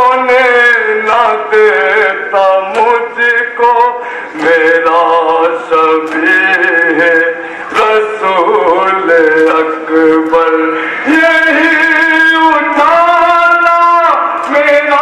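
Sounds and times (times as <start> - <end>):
man singing a lament: 0.0 - 15.0.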